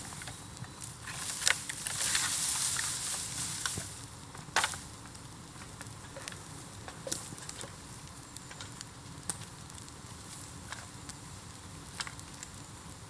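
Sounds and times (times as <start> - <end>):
bonfire crackling and popping: 0.0 - 13.0
fire hissing: 0.0 - 13.0.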